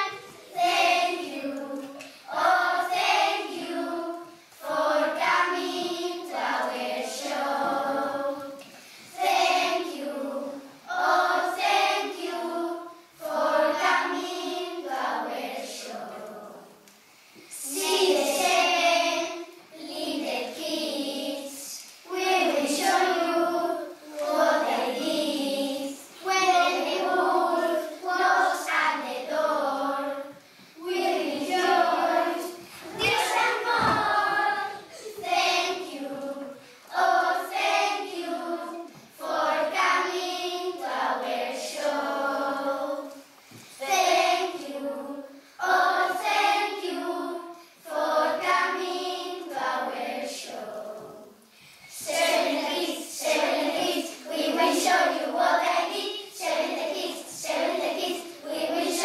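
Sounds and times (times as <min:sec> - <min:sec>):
children singing together: 0:00.0 - 0:59.0.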